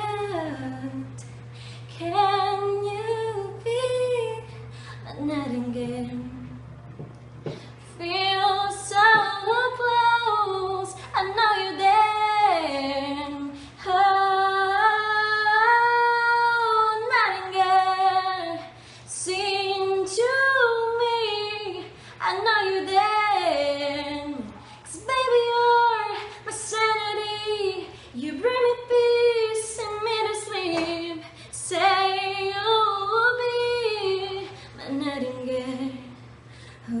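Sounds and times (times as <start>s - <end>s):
woman singing into a microphone: 0.0s - 6.6s, 7.9s - 36.2s
steady low hum: 0.0s - 37.0s.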